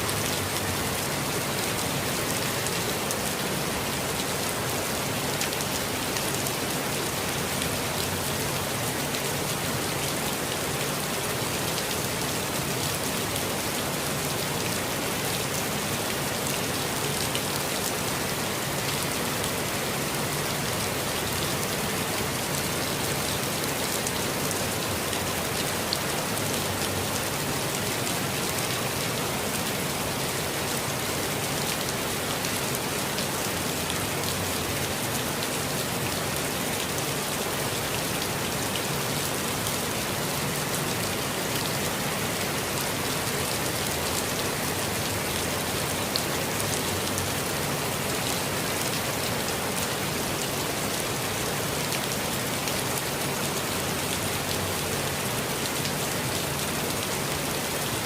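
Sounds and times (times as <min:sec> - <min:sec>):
gentle rain in a forest: 0:00.0 - 0:58.0.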